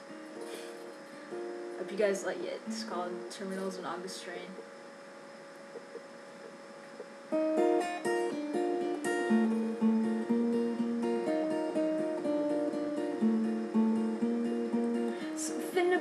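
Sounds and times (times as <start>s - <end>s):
acoustic guitar picking: 0.0s - 4.1s, 5.6s - 16.0s.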